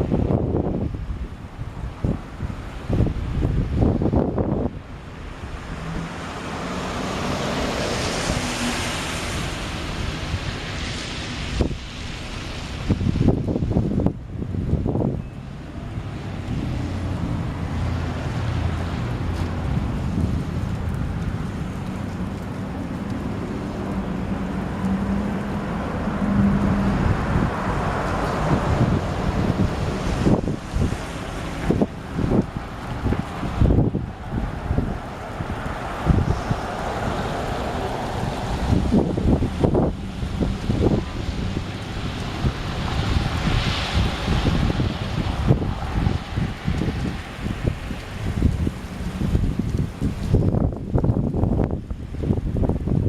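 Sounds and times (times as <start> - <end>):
tyre and road noise: 0.0 - 53.0
vehicle engine hum: 0.0 - 53.0
wind buffeting microphone: 0.0 - 53.0.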